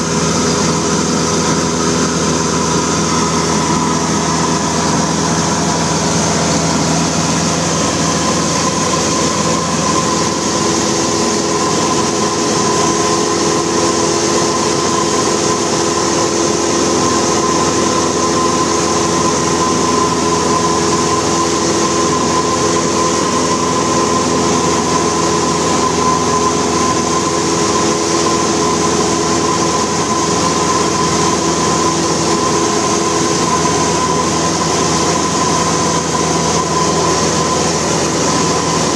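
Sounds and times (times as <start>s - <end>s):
propeller aircraft engine droning: 0.0s - 38.9s.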